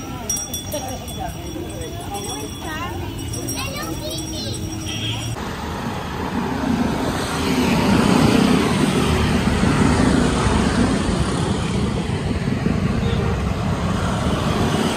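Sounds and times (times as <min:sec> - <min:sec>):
traffic: 0:00.0 - 0:14.9.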